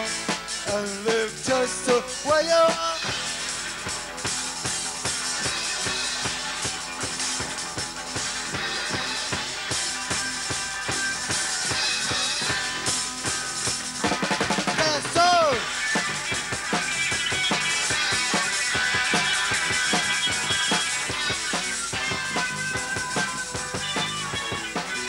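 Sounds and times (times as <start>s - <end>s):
driving drum kit: 0.0s - 25.0s
live rock band playing: 0.0s - 25.0s.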